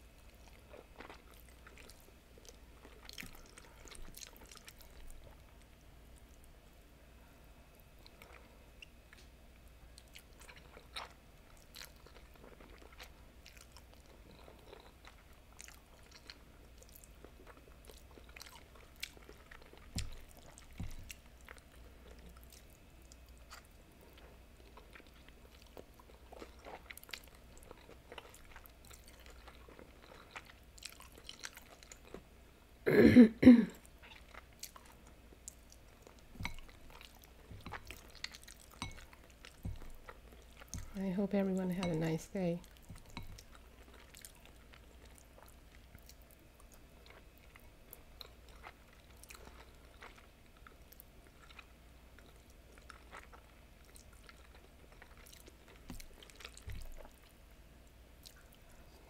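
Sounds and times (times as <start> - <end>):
chewing noodles: 0.2 - 6.5, 9.9 - 32.3, 33.8 - 57.4, 58.2 - 59.0.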